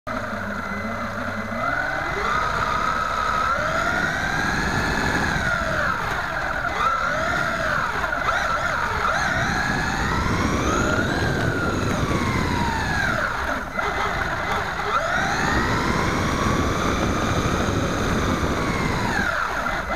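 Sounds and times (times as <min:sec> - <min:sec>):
toy truck motor whining: 0:00.1 - 0:19.9
wheels rumbling on concrete: 0:00.1 - 0:19.9.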